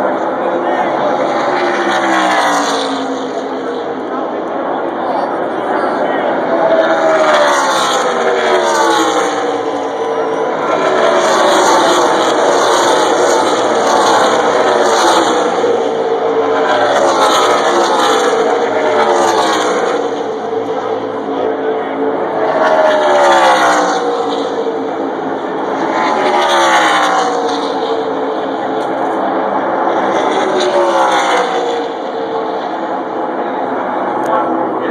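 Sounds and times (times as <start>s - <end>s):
race truck engines passing: 0.0s - 34.9s.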